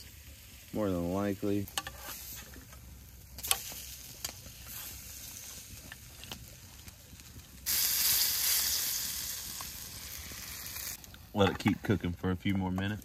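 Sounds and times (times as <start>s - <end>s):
food sizzling: 0.0s - 12.0s
campfire crackling: 0.0s - 13.0s.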